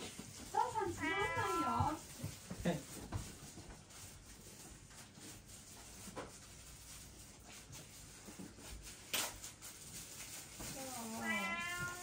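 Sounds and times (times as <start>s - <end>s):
soft rustling of handled things: 0.0s - 12.0s.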